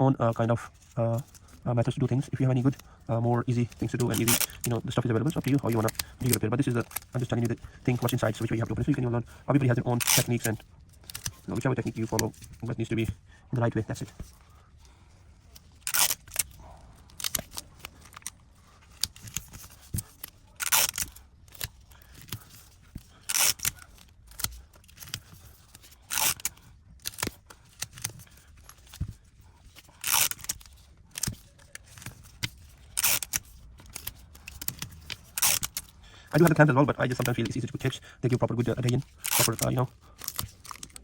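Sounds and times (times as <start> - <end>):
adhesive tape tearing: 2.6 - 9.0, 9.6 - 12.5, 15.4 - 29.0, 29.7 - 41.0.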